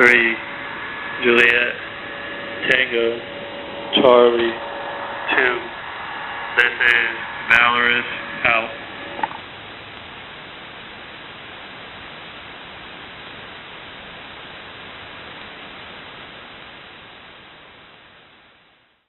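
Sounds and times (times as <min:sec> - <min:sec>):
shortwave radio static hiss: 0:00.0 - 0:19.0.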